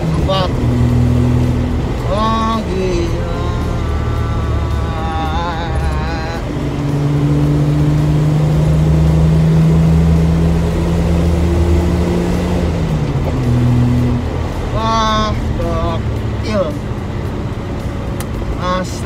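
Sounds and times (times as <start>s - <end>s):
car engine droning under load: 0.0s - 19.0s
road rumble inside car: 0.0s - 19.0s.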